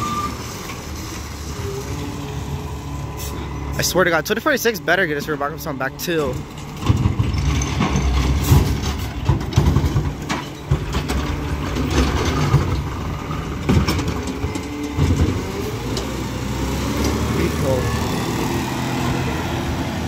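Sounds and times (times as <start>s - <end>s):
garbage truck engine rumble: 0.0s - 20.0s.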